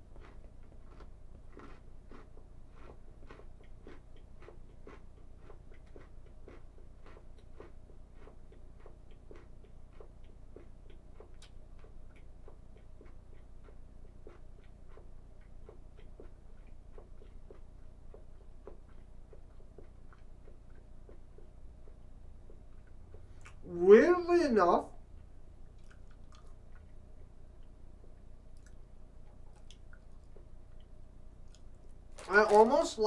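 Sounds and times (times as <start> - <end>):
crunchy snack being chewed: 0.0 - 23.6, 25.6 - 27.8, 28.5 - 33.0.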